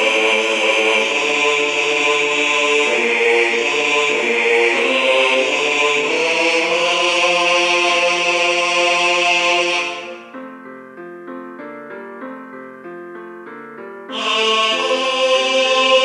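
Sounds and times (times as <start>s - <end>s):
computer choir singing chords: 0.0s - 16.0s.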